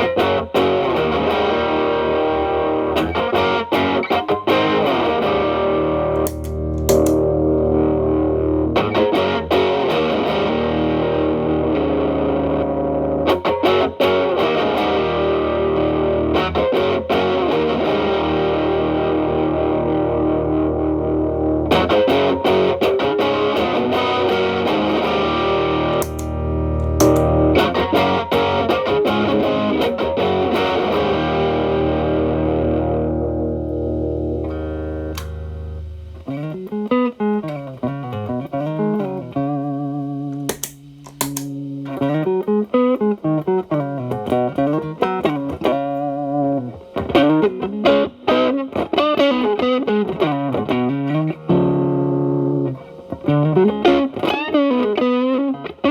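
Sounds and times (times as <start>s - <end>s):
overdriven electric guitar chords: 0.0s - 55.9s.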